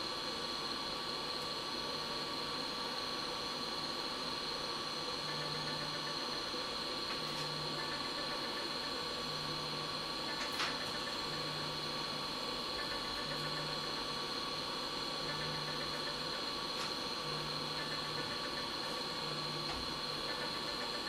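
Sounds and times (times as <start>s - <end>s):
electrical hum and hiss: 0.0s - 21.0s.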